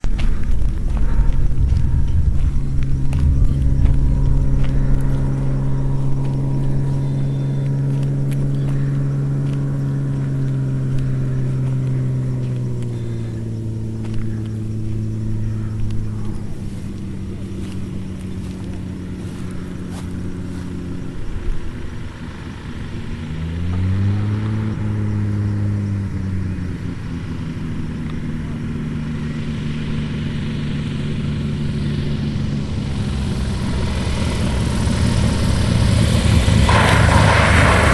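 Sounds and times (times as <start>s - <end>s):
propeller plane engine droning: 0.0s - 37.9s.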